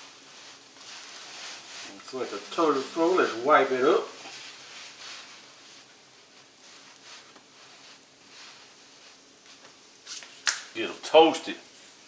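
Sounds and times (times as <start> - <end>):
bread sizzling in a hot pan: 0.0 - 12.0.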